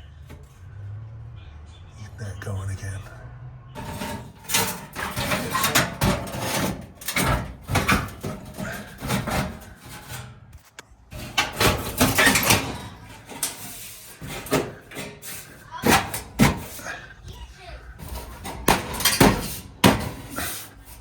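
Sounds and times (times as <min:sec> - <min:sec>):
metal oven parts clanking: 0:03.8 - 0:21.0.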